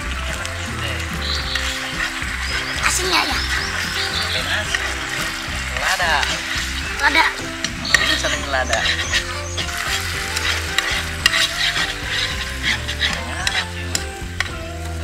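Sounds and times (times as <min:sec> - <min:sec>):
sauce sizzling: 0:00.0 - 0:15.0
spatula scraping frying pan: 0:00.0 - 0:15.0.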